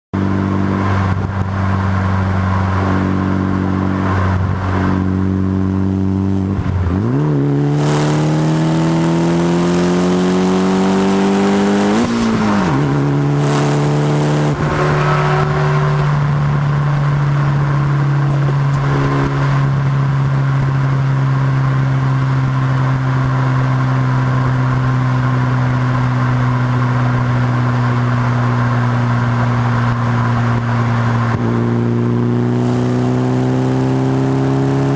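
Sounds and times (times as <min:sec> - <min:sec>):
car engine accelerating: 0:00.2 - 0:34.9.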